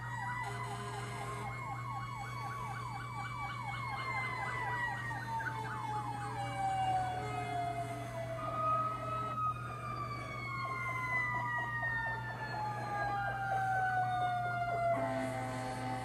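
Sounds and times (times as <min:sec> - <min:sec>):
mechanical siren winding down: 0:00.0 - 0:16.0.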